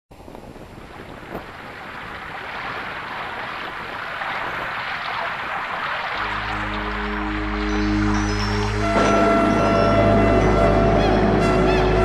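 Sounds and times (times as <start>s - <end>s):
waves breaking on beach: 0.1s - 10.6s.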